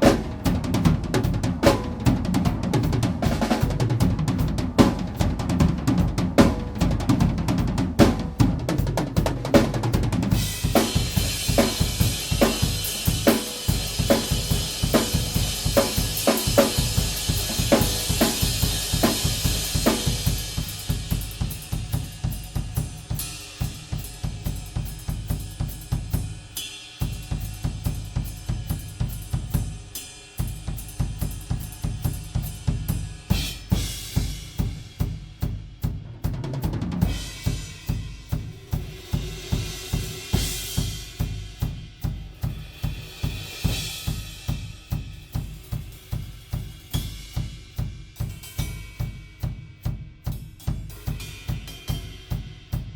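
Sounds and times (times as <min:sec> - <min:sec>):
acoustic drum kit groove: 0:00.0 - 0:52.9.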